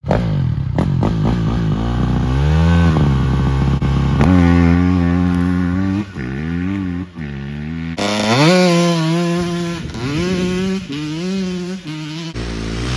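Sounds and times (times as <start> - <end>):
motocross bike engine revving: 0.0 - 12.9.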